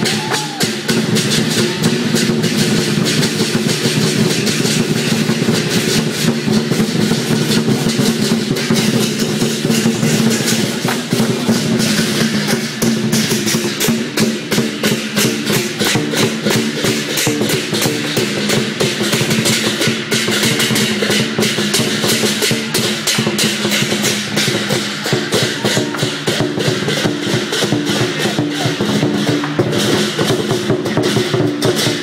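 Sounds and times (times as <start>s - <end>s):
cymbals clashing: 0.0s - 32.0s
large drum beating: 0.0s - 32.0s.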